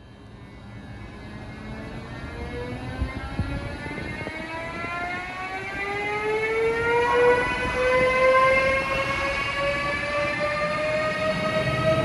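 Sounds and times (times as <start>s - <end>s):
electric locomotive motor whine: 0.0s - 12.0s.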